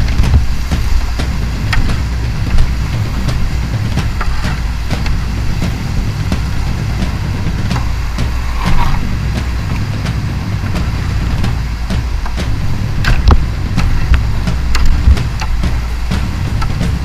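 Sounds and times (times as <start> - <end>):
water knocks and splashes: 0.0 - 17.0
whitewater rushing: 0.0 - 17.0.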